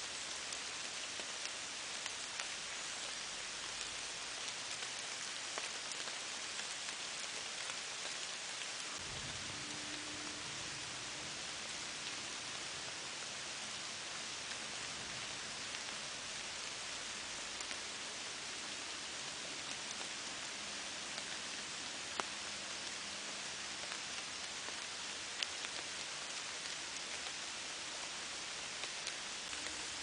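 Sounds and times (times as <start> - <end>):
raindrops ticking close by: 0.0 - 30.0
steady rain hiss: 0.0 - 30.0.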